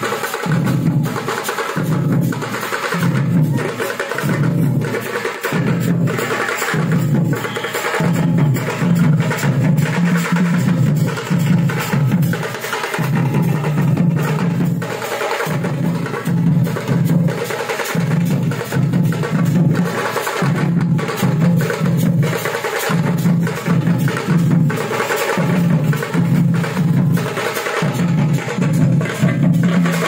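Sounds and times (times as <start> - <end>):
frame drums beaten with sticks: 0.0 - 30.0.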